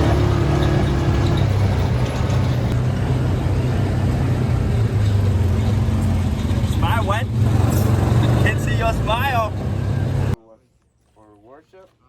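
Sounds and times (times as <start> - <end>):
atv engine droning: 0.0 - 10.4.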